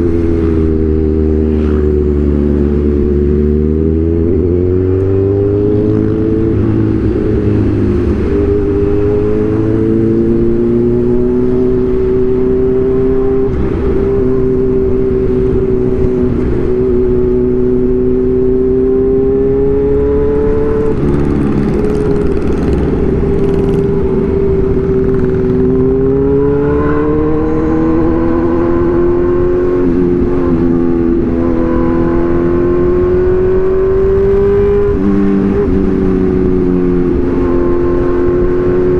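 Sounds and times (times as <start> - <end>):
motorcycle engine and exhaust running: 0.0 - 38.9.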